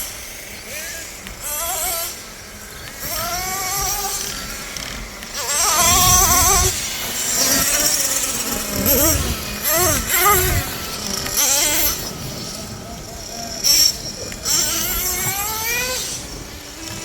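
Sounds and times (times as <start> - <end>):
rc truck engines revving: 0.0 - 17.0.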